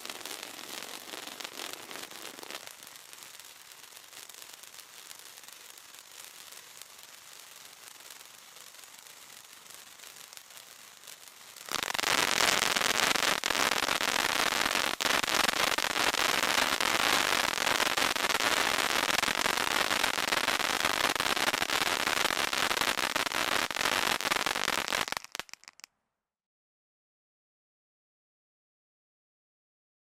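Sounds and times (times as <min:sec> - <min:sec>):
firework fountain hissing and crackling: 0:00.0 - 0:25.9.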